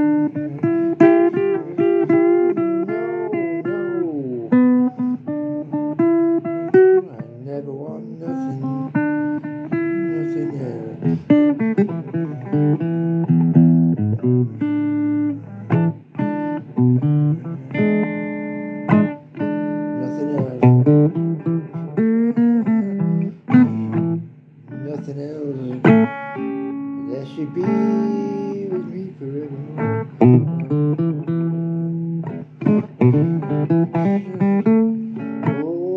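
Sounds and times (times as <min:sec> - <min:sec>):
blues guitar melody: 0:00.0 - 0:35.9.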